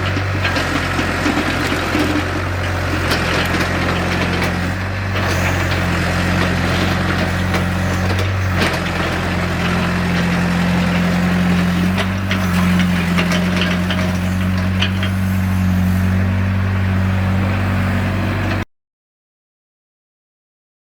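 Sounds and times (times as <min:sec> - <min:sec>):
excavator diesel engine running: 0:00.0 - 0:18.6.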